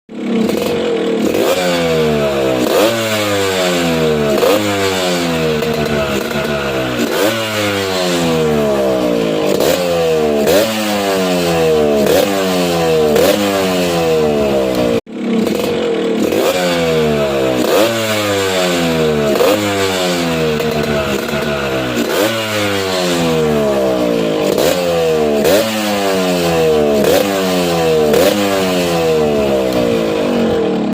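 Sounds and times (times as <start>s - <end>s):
two-stroke engine revving: 0.1s - 30.9s.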